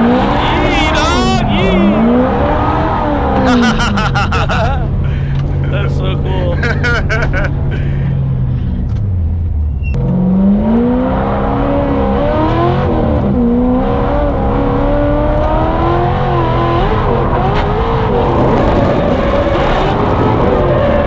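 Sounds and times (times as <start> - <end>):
car engine revving hard: 0.0 - 8.9, 10.0 - 21.0
tire noise roar: 0.0 - 21.0.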